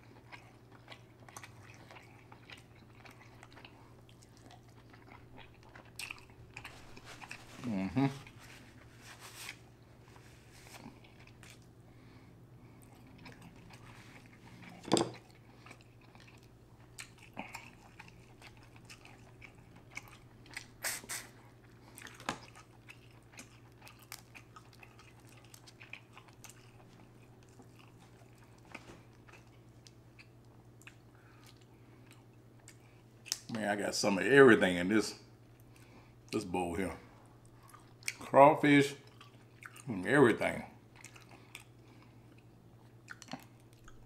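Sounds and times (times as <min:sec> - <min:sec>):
person chewing and crunching food: 0:00.0 - 0:33.5, 0:37.2 - 0:38.3, 0:38.9 - 0:44.0
low steady hum: 0:00.0 - 0:44.0.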